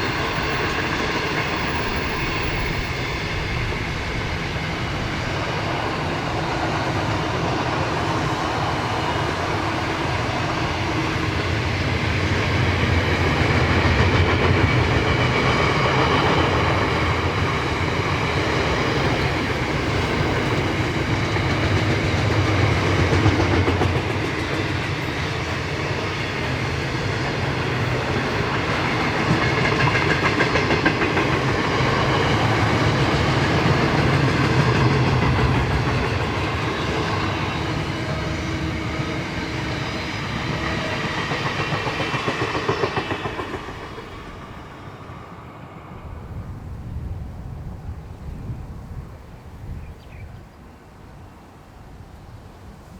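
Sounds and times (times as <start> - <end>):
train wheels clicking over rail joints: 0.0 - 44.8.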